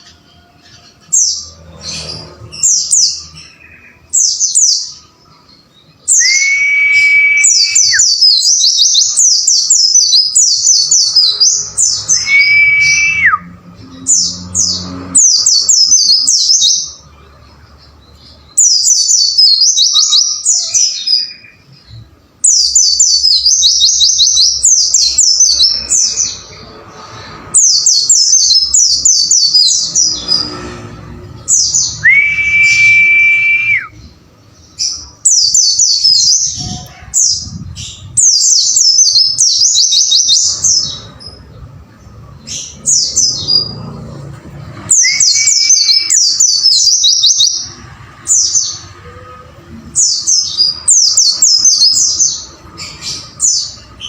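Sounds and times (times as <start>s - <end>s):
high bird chirping: 0.0s - 17.1s, 17.9s - 26.7s, 31.4s - 44.0s, 44.9s - 48.9s, 50.0s - 54.0s.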